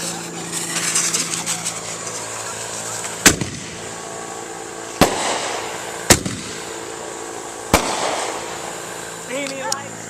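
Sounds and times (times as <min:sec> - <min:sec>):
fireworks bangs: 0:00.5 - 0:04.2, 0:04.8 - 0:09.2.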